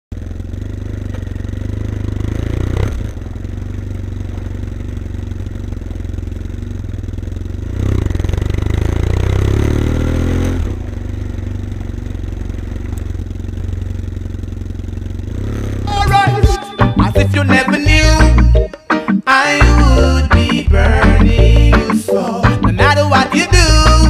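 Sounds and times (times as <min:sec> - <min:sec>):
motorcycle engine revving: 0:00.1 - 0:18.9, 0:19.7 - 0:24.0.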